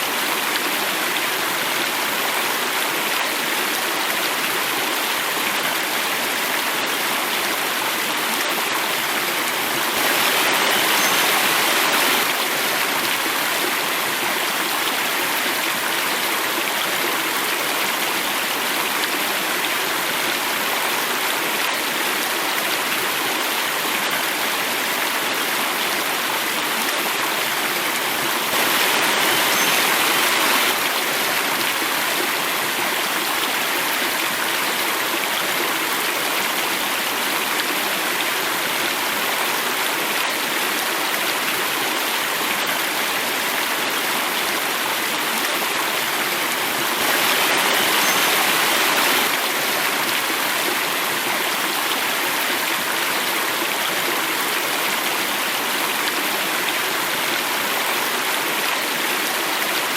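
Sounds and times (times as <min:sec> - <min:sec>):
stream water cascading: 0:00.0 - 0:59.9.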